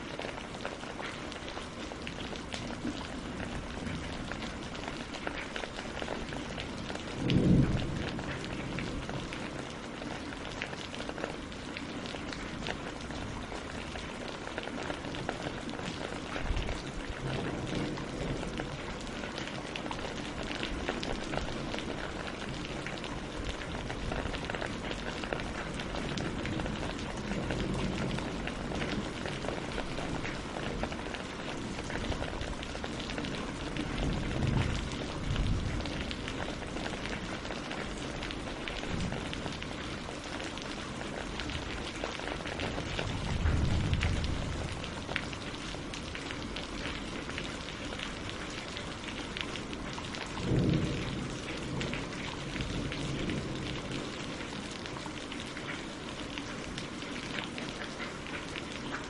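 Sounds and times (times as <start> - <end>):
rain on leaves and water: 0.0 - 59.0.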